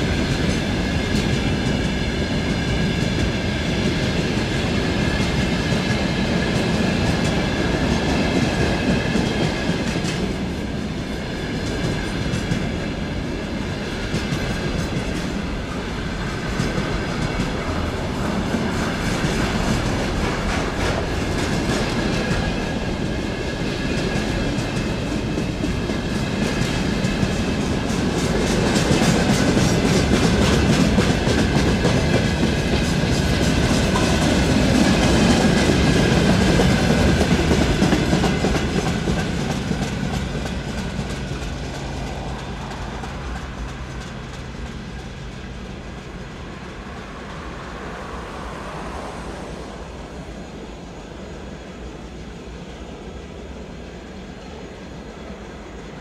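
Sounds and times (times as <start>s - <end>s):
freight train wheels clicking: 0.0s - 49.0s
train rumble: 0.0s - 56.0s.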